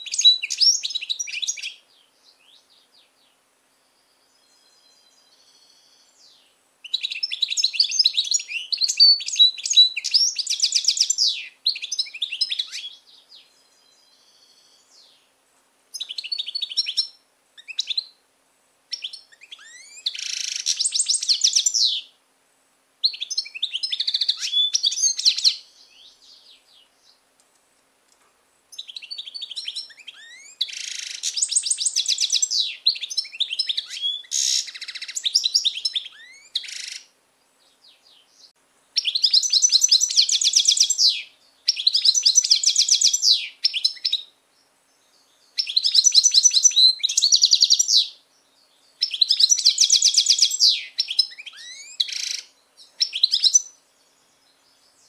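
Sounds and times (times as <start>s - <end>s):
finch twittering song: 0.0s - 15.3s, 15.9s - 18.2s, 18.9s - 22.1s, 23.0s - 27.2s, 28.7s - 55.0s.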